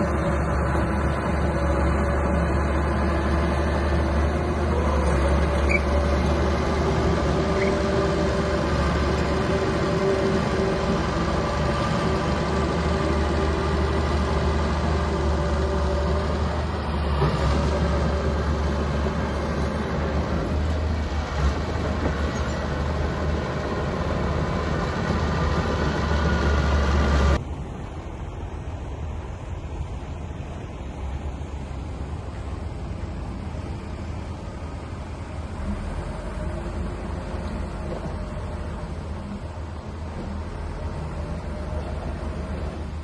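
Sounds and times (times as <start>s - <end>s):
bulldozer diesel engine: 0.0s - 43.0s.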